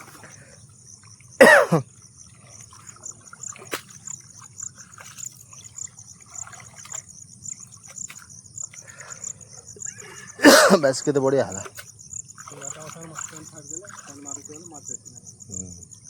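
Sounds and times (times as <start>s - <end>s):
insects chirping: 0.0s - 16.0s
water trickling and splashing: 0.0s - 16.0s.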